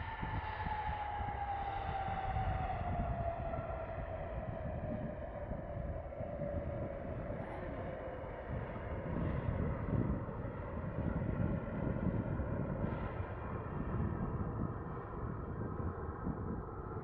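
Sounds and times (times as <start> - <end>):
jet engine whine: 0.0 - 17.0.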